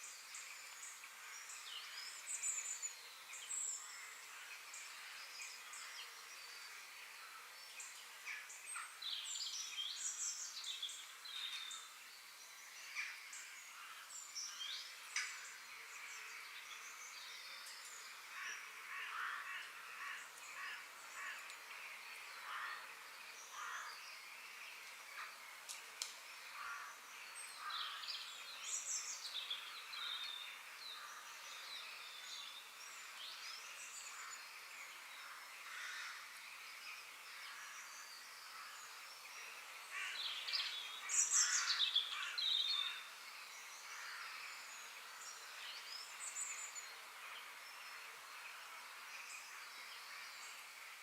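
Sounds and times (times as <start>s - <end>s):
birds calling and chirping: 0.0s - 51.0s
steady outdoor hiss: 0.0s - 51.0s.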